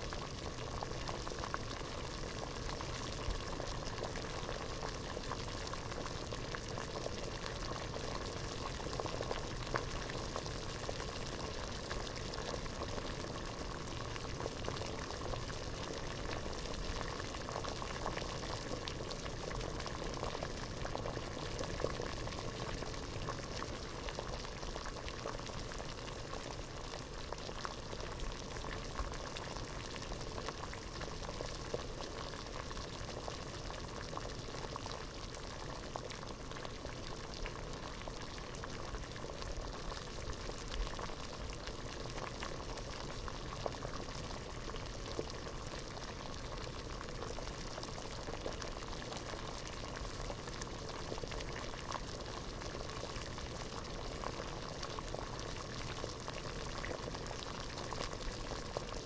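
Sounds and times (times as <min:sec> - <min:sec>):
water boiling in a pot: 0:00.0 - 0:59.0.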